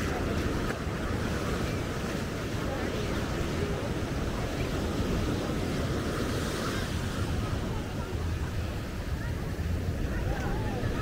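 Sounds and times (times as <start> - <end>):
surf on a sandy beach: 0.0 - 11.0.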